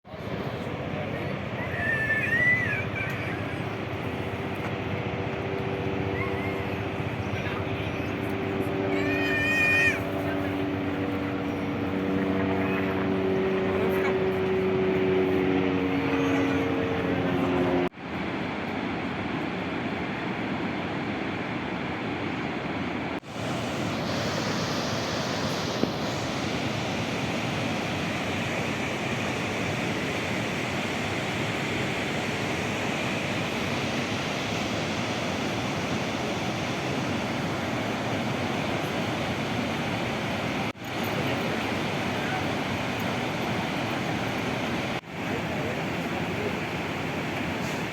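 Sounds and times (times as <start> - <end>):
waterfall rushing roar: 0.1 - 47.9.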